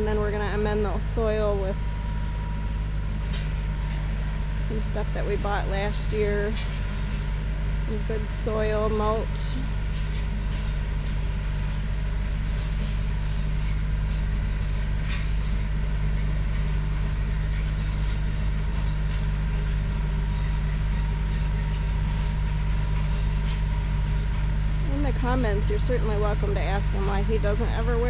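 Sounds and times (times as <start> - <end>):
tractor engine running: 0.0 - 28.0
rototiller tilling soil: 3.9 - 28.0.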